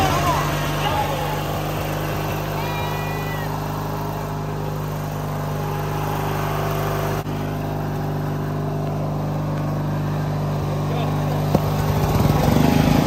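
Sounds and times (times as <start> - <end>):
lawn mower engines running: 0.0 - 13.0.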